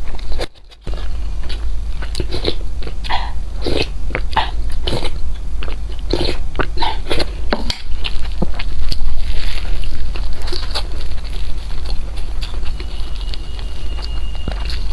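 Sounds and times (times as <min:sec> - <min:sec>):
person chewing food: 0:00.0 - 0:14.9.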